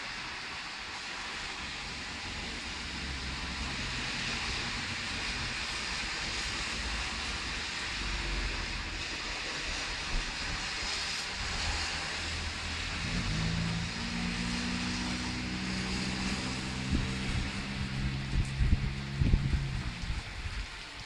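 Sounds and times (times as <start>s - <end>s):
rain hiss: 0.0s - 21.0s
traffic on wet street: 0.0s - 21.0s
low engine drone: 1.6s - 21.0s.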